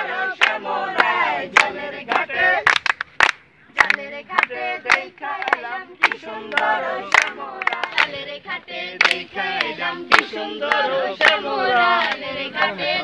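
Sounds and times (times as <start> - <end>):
group singing together: 0.0 - 2.8, 3.7 - 13.0
rhythmic hand clapping: 0.1 - 12.3.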